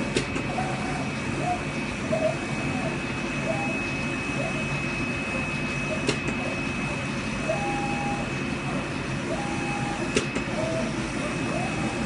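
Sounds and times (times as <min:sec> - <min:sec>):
cutting machine hum and whine: 0:00.0 - 0:12.0.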